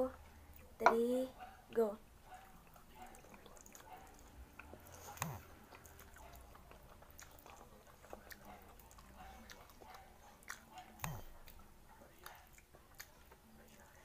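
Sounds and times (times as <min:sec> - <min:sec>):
chewing and slurping noodles: 0:02.5 - 0:14.0.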